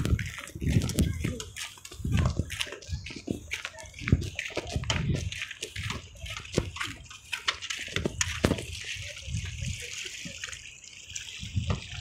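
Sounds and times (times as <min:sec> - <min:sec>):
waves lapping on rocks: 0:00.0 - 0:12.0.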